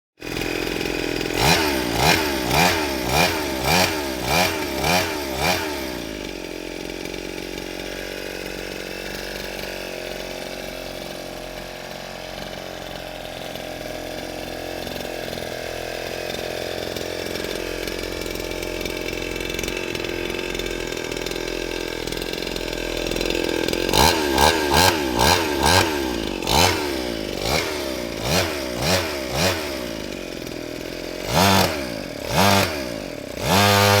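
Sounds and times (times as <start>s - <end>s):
small engine revving and idling: 0.2s - 34.0s.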